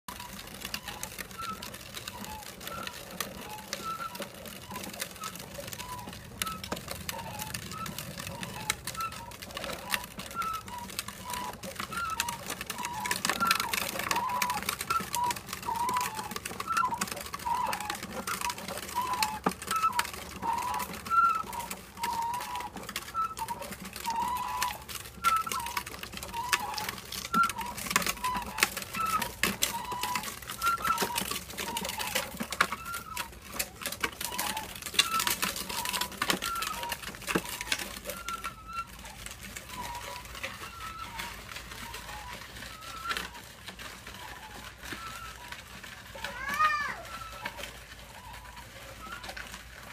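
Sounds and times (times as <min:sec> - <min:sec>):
plastic wheels rolling on concrete: 0:00.0 - 0:49.9.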